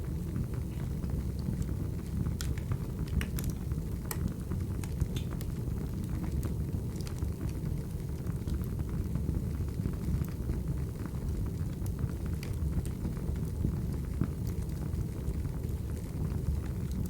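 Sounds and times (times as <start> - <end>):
crackles and pops of burning logs: 0.0 - 17.0
low rumble of fire: 0.0 - 17.0.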